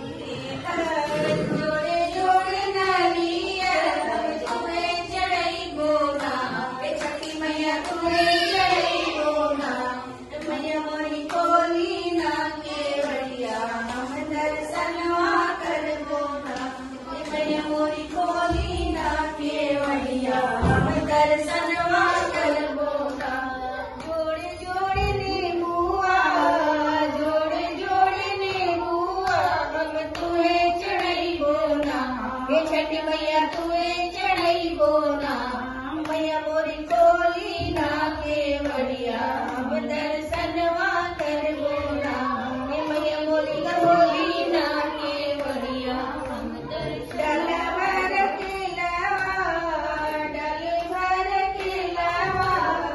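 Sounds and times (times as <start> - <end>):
women singing in unison: 0.0 - 52.9.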